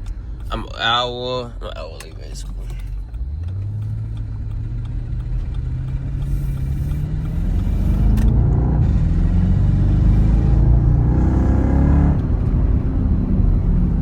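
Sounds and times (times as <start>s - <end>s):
car engine accelerating: 2.3s - 14.0s.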